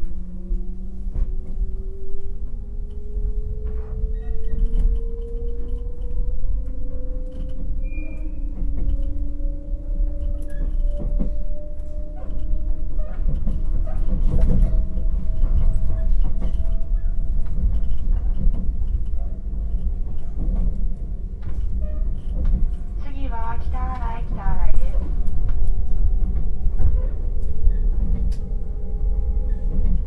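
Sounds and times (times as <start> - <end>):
low rumble of running gear: 0.0 - 30.0
train traction motor whine: 0.0 - 30.0.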